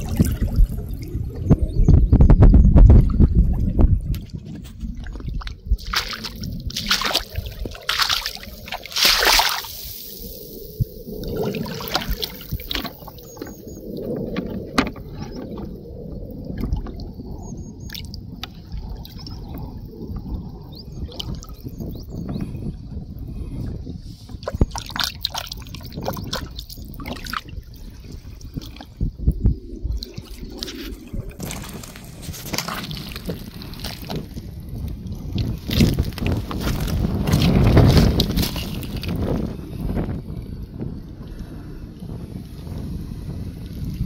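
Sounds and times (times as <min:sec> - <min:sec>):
water trickling and splashing: 0:00.0 - 0:02.1, 0:02.8 - 0:40.5
footsteps sloshing through shallow water: 0:02.8 - 0:22.5, 0:24.0 - 0:40.4.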